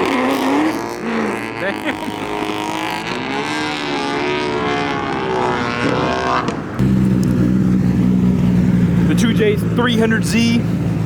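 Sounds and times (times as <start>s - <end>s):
car engine accelerating hard: 0.0s - 11.0s
engine at low revs: 0.0s - 11.0s.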